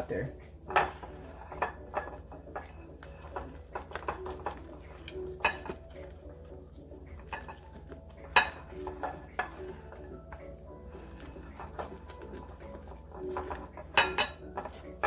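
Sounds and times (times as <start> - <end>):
utensil knocking and scraping bowl: 0.0 - 15.0.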